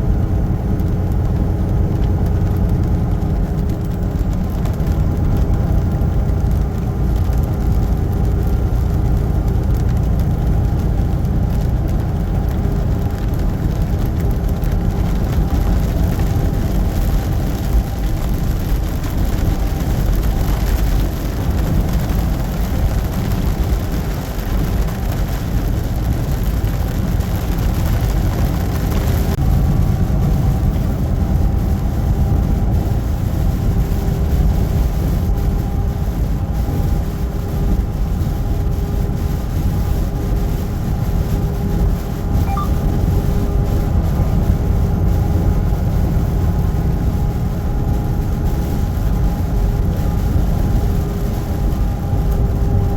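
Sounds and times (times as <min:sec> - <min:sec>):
truck engine and road rumble: 0:00.0 - 0:52.9.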